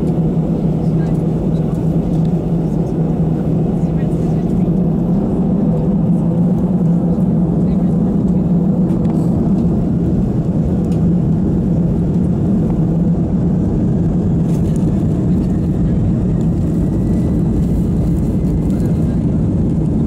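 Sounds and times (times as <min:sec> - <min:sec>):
aircraft engines humming: 0:00.0 - 0:20.0.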